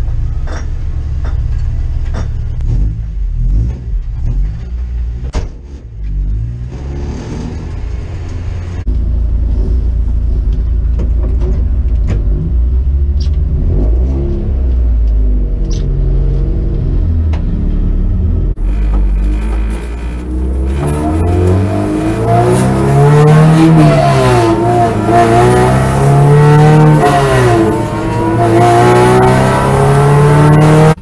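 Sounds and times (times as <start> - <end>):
car engine revving: 2.1 - 31.0.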